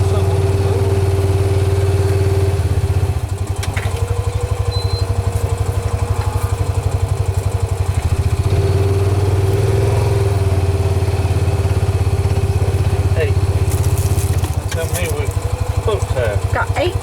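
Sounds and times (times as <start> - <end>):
farm vehicle engine idling: 0.0 - 17.0.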